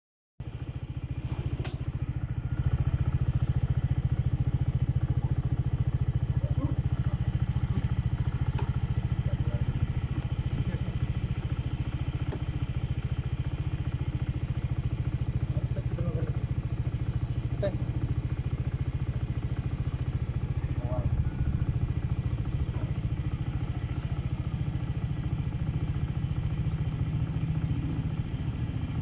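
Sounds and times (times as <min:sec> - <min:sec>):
scooter engine idling: 0:00.4 - 0:29.0.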